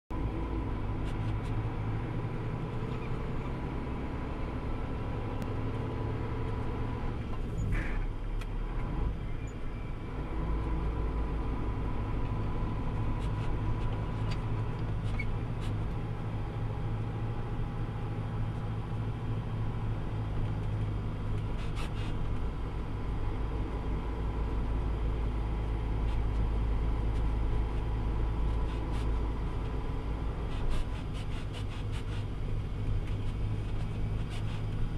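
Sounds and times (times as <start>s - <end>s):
truck engine rumbling: 0.1s - 34.9s.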